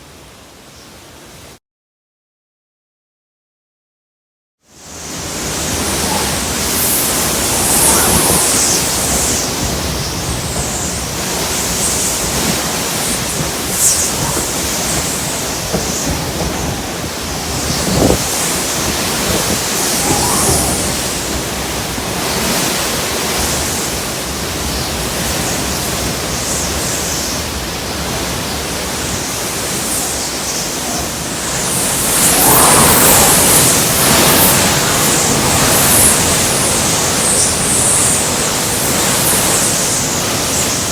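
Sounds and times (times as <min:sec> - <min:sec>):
hurricane winds rushing: 0:04.9 - 0:40.9.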